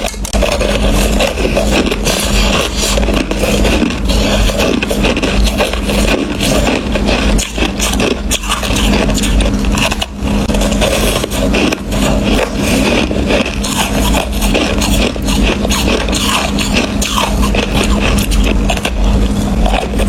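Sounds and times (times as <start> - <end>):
crushed ice being chewed: 0.0 - 20.0.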